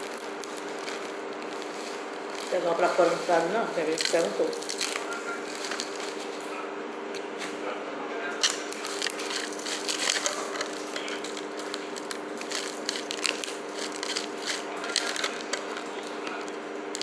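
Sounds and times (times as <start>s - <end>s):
fork scraping foil tray: 0.6s - 6.5s, 8.4s - 16.5s.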